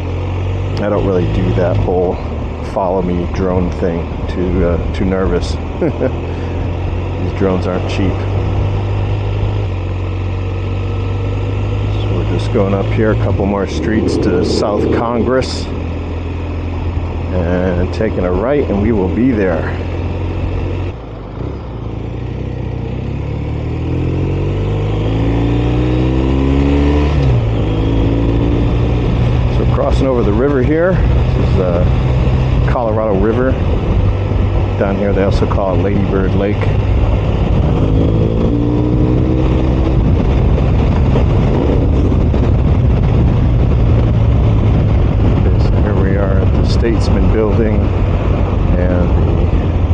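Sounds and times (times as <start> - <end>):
motorcycle engine accelerating: 0.0 - 49.9
wind and road noise: 0.0 - 49.9.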